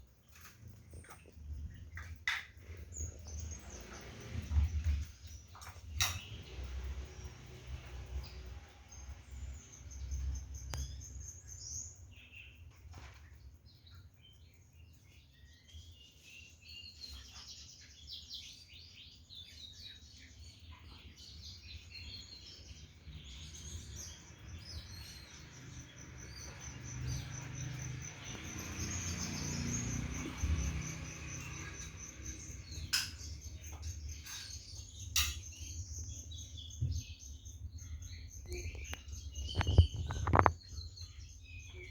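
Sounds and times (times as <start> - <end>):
songbirds chirping and singing: 0.0 - 41.9.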